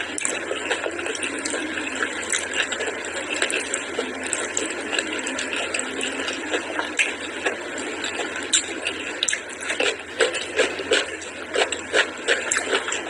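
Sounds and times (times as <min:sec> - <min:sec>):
chewing and wet squelching: 0:00.0 - 0:13.0
fingers mixing rice on plate: 0:00.2 - 0:13.0.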